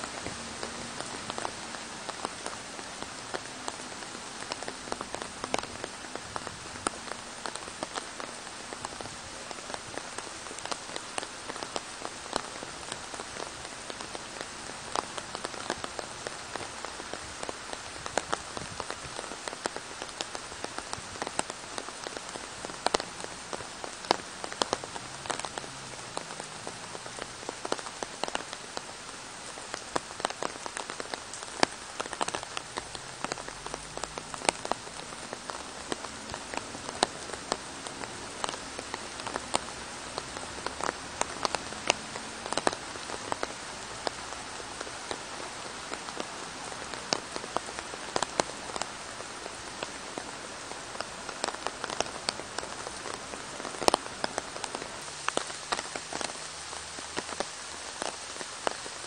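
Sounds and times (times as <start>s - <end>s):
close raindrop strikes: 0.0s - 59.0s
steady rain falling: 0.0s - 59.0s.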